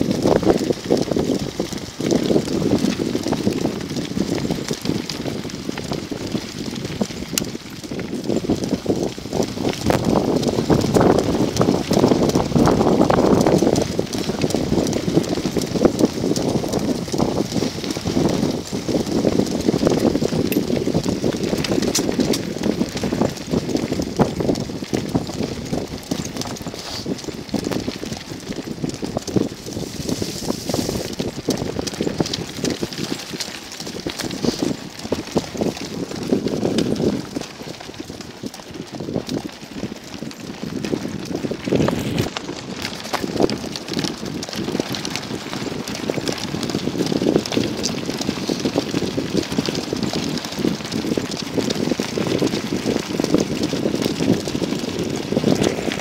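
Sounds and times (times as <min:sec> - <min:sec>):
wheels crunching on gravel: 0:00.0 - 0:56.0
wind on microphone: 0:00.0 - 0:56.0.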